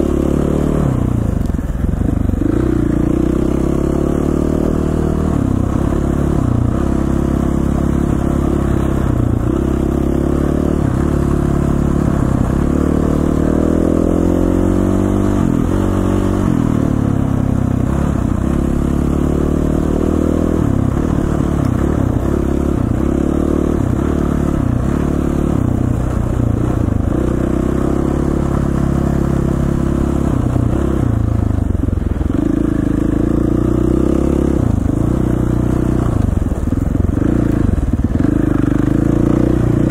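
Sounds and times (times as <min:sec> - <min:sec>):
dirt bike engine revving: 0:00.0 - 0:01.3, 0:02.4 - 0:31.3, 0:32.3 - 0:39.9.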